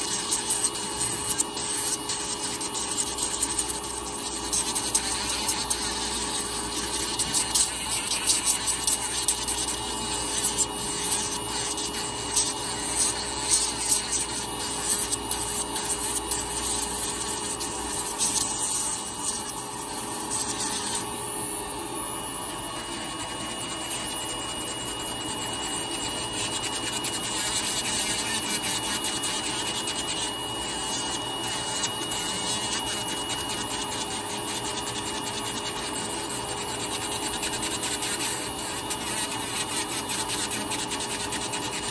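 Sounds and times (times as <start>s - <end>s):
gritty rasping of grinding nail: 0.0s - 21.1s, 22.8s - 41.9s
nail drill motor whine: 0.0s - 41.9s.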